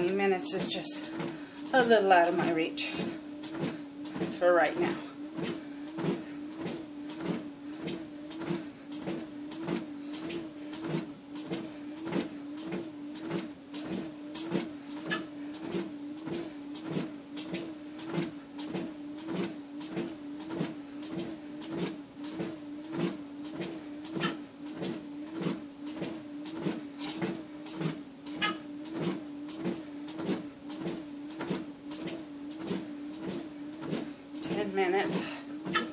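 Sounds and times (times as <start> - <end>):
footfalls thumping on treadmill belt: 0.0 - 35.9
treadmill motor humming: 0.0 - 35.9.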